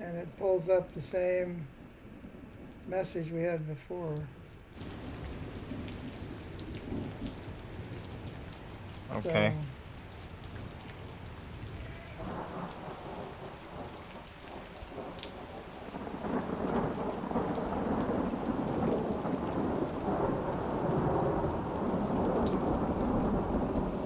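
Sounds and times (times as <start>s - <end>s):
rolling thunder rumble: 0.0s - 24.0s
steady rain: 0.0s - 24.0s.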